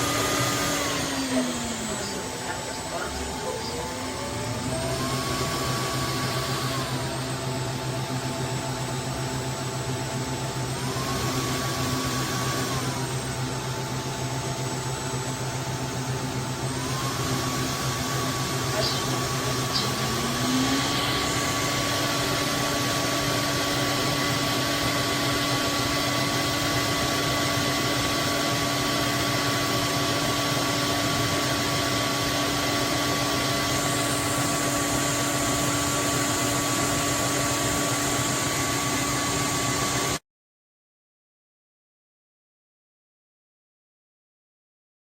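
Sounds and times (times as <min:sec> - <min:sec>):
vacuum mop motor whining: 0:00.0 - 0:40.2.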